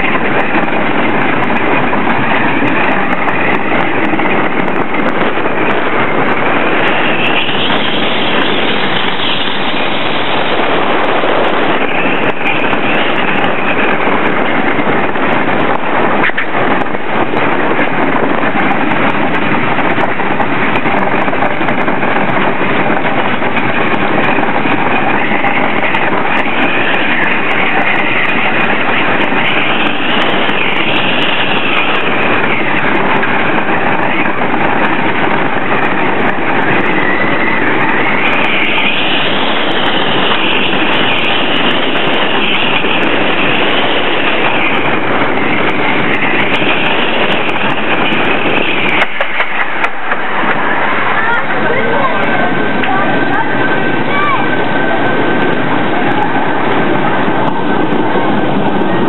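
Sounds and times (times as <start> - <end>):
roller coaster wheels rumbling: 0.0 - 59.0.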